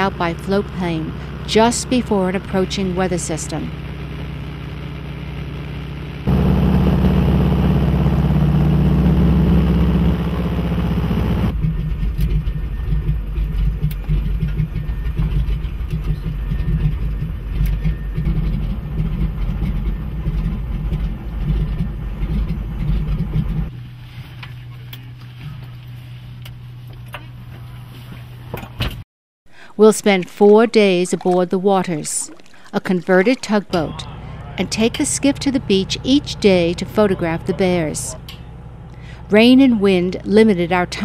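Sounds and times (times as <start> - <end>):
plane piston engine drone: 0.0 - 28.4, 33.8 - 41.0.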